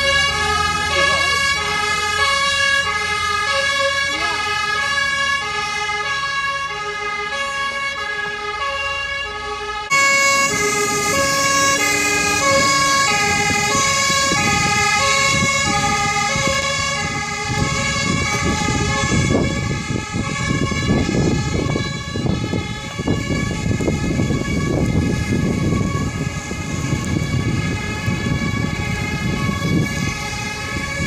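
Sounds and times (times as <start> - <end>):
fire engine two-tone siren: 0.0 - 31.0
passing vehicles rumbling: 0.0 - 31.0.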